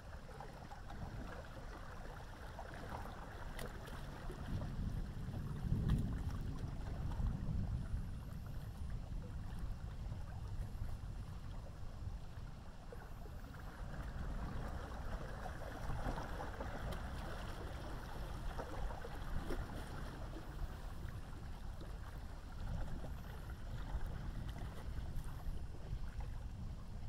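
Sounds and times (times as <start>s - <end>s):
steady low rumble: 4.1s - 27.0s.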